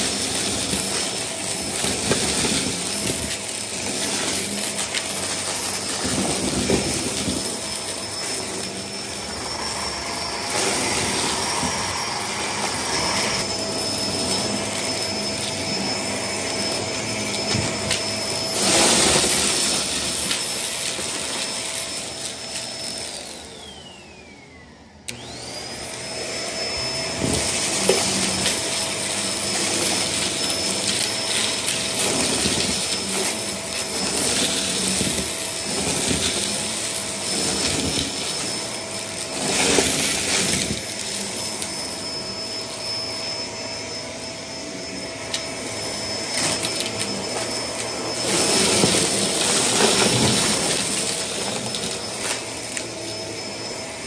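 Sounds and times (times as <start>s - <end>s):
debris rattling up vacuum: 0.0s - 24.1s, 25.1s - 43.9s, 44.8s - 53.8s
vacuum cleaner motor whine: 0.0s - 54.0s.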